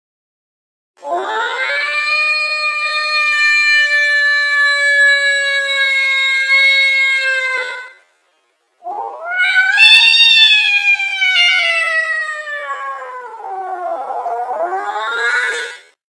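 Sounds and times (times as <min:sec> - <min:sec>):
cat yowling: 0:01.1 - 0:08.0, 0:08.8 - 0:16.0.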